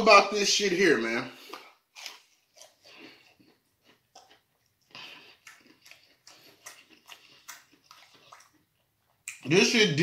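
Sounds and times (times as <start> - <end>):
chewing crunchy fried food: 1.3 - 9.6.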